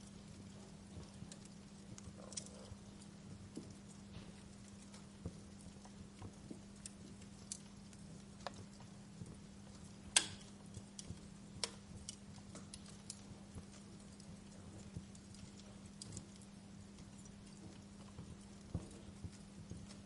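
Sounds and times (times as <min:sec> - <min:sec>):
faint low hum: 0:00.0 - 0:20.0
wood fire crackling: 0:00.0 - 0:20.0.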